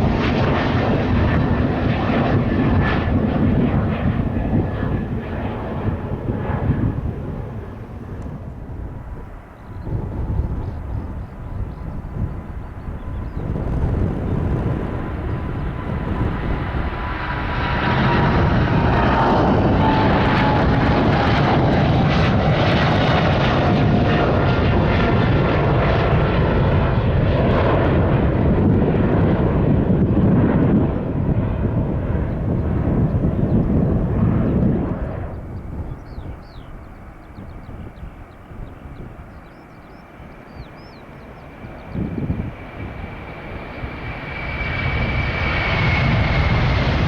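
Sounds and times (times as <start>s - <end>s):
jet airliner taking off: 0.0s - 47.0s.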